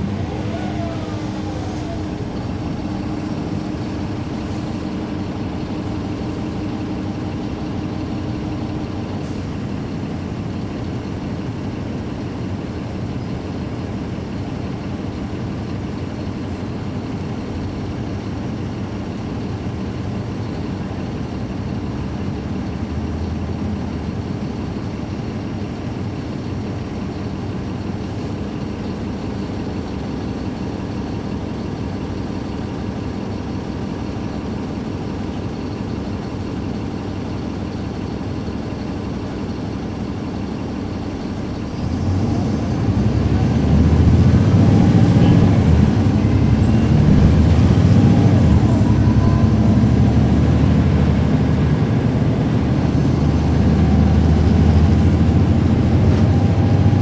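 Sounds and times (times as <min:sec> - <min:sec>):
bus diesel engine running: 0:00.0 - 0:57.0
engine cooling fans: 0:00.0 - 0:57.0.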